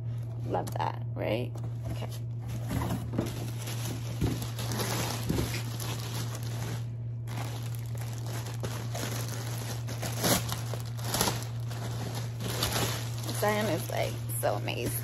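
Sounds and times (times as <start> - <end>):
steady low hum: 0.0 - 15.0
plastic bag crinkling: 2.5 - 15.0.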